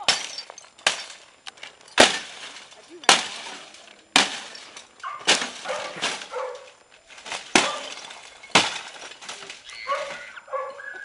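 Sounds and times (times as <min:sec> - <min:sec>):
plastic and glass crunching: 0:00.0 - 0:10.9.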